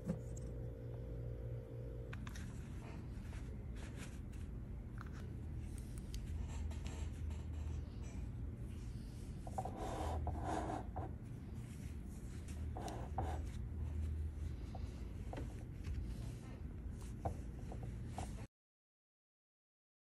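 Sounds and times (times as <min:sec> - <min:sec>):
low steady hum: 0:00.0 - 0:18.5.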